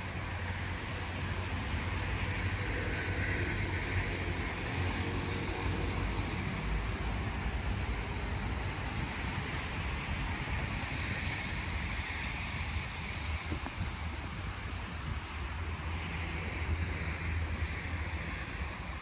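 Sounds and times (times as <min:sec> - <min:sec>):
traffic rumble: 0:00.0 - 0:19.0
wind on microphone: 0:00.0 - 0:19.0.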